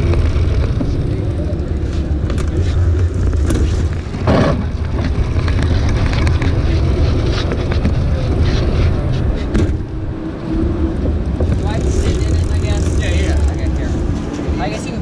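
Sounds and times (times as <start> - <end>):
go-kart rolling over pavement: 0.0 - 13.8.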